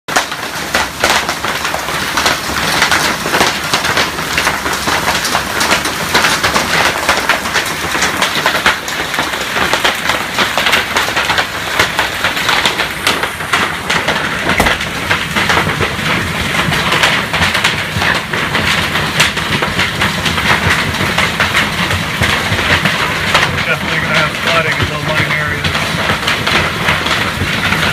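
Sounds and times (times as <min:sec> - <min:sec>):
hail clattering: 0:00.1 - 0:27.9.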